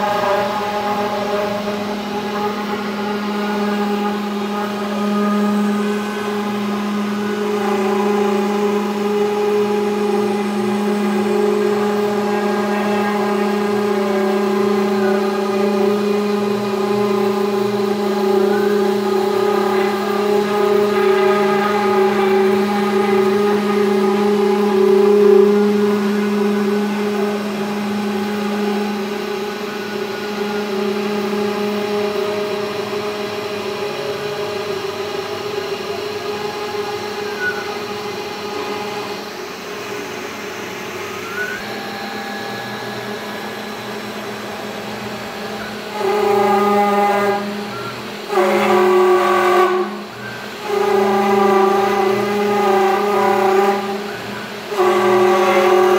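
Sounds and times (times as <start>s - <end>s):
router spindle whining: 0.0s - 55.9s.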